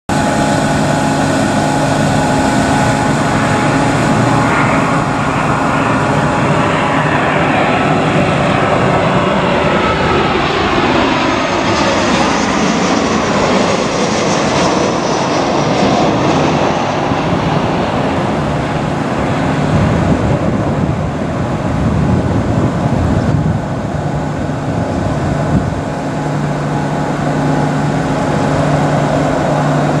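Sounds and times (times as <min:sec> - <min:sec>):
jet airliner passing overhead: 0:00.1 - 0:30.0.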